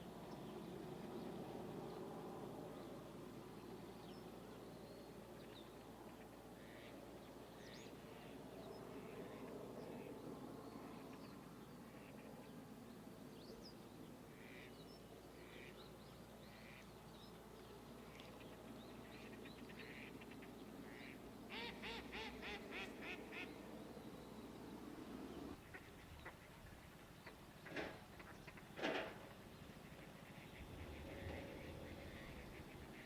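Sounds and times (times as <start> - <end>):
faint outdoor background hiss: 0.0 - 33.0.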